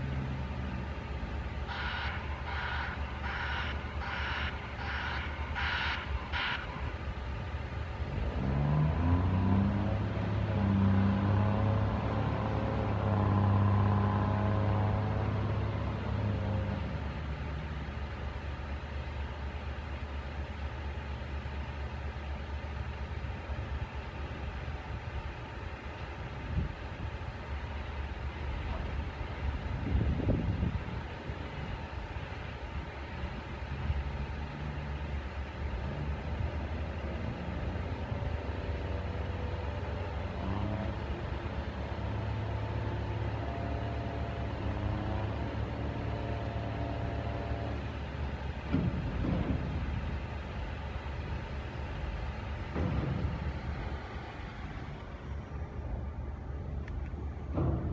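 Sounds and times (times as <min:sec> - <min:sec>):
heavy vehicle engine rumbling: 0:00.0 - 0:57.9.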